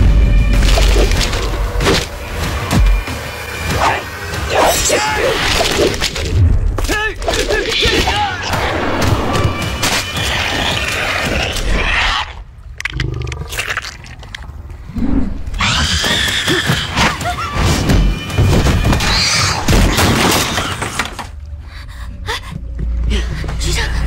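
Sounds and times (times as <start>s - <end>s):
dramatic film music: 0.0s - 24.0s.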